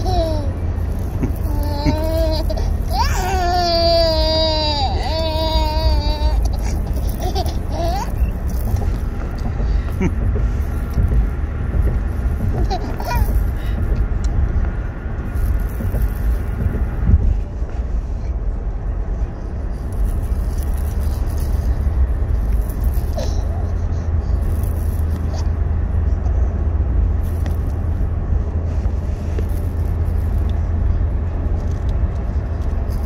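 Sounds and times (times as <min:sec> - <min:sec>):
car road rumble: 0:00.0 - 0:33.0.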